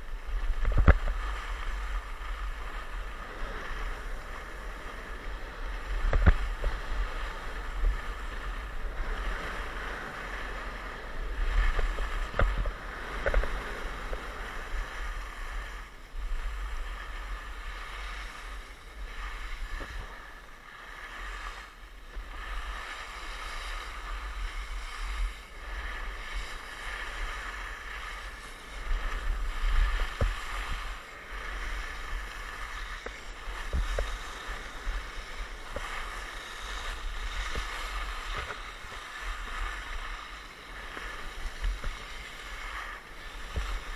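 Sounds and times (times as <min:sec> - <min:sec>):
skis scraping over snow: 0:00.0 - 0:43.9
wind rumbling on microphone: 0:00.0 - 0:43.9.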